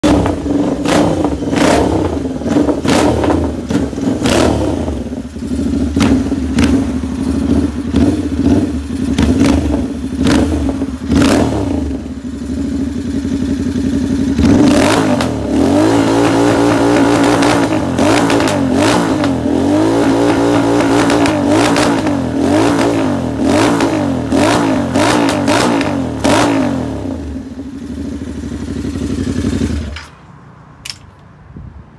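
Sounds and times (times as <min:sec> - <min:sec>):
motorcycle engine revving: 0:00.0 - 0:30.2.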